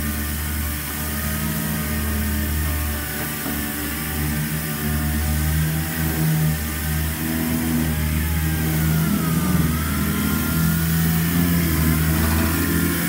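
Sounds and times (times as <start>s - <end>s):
low motor hum: 0.0s - 13.0s
wavering higher whine: 0.0s - 13.0s.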